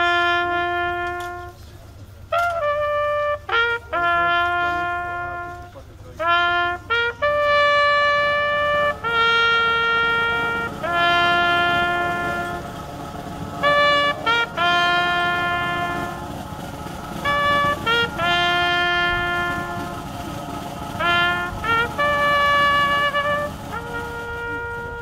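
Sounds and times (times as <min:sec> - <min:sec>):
solo trumpet playing slow call: 0:00.0 - 0:25.0.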